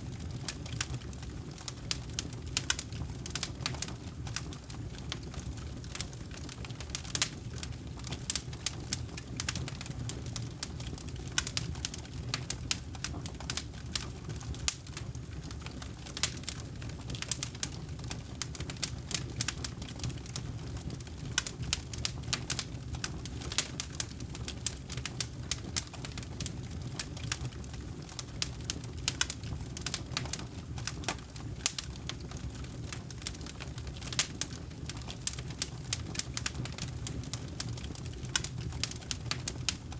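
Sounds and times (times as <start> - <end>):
low rumble of flames: 0.0 - 39.9
burning wood popping: 0.1 - 39.9.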